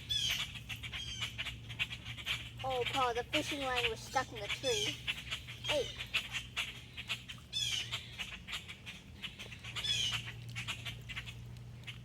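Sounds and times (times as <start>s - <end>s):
grackle squawking: 0.0s - 12.0s.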